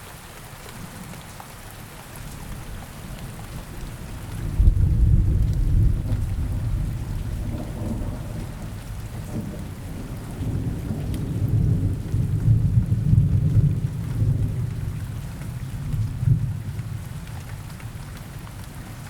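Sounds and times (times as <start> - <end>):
steady rain falling: 0.0 - 19.0
low rumble of thunder: 2.2 - 19.0.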